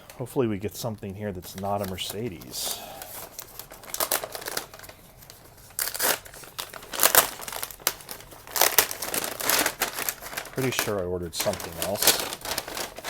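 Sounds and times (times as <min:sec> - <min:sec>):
packaging crinkling and rustling: 0:00.0 - 0:13.0
packaging tearing: 0:01.4 - 0:13.0.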